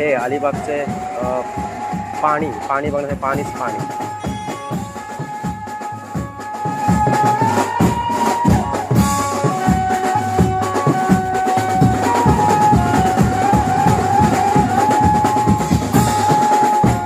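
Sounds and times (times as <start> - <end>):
fast drumming: 0.0 - 17.0
held melody line: 0.0 - 17.0.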